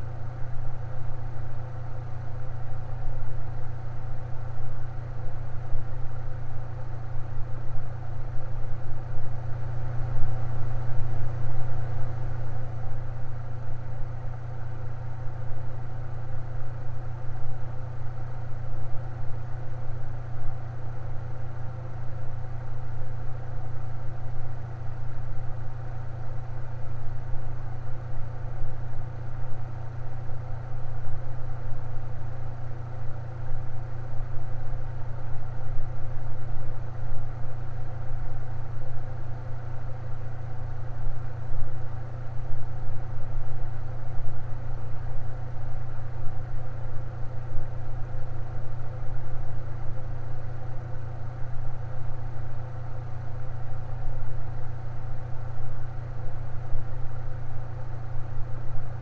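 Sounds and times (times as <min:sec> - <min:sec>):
electric fan humming: 0:00.0 - 0:59.0.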